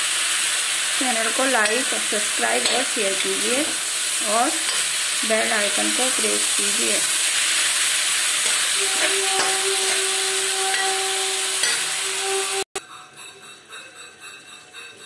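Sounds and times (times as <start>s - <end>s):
vegetables sizzling in oil: 0.0s - 12.7s.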